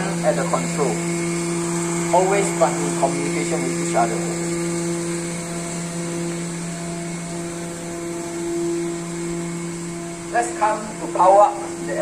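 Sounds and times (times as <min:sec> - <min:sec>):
hydraulic power unit humming: 0:00.0 - 0:12.0.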